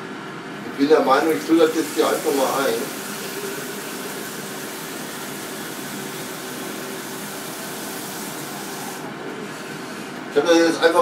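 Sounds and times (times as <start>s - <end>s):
tap water running into tank: 1.1s - 10.0s.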